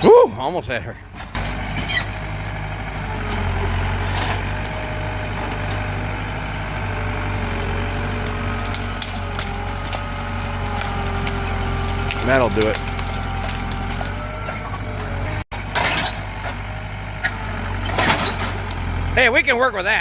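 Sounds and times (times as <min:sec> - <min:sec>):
heavy machine engine humming: 0:00.0 - 0:20.0.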